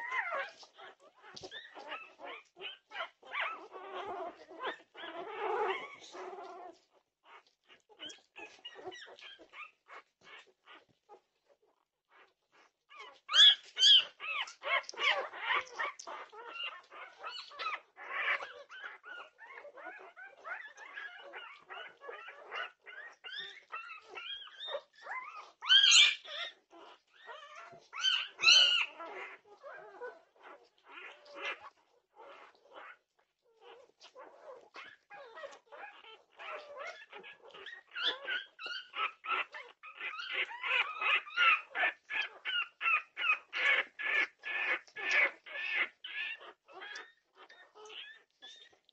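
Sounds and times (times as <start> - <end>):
puppies crying: 0.0 - 48.9.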